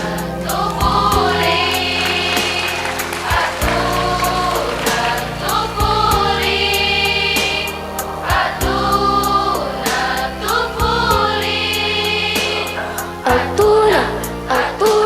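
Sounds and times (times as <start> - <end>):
girls' choir singing: 0.0 - 15.0.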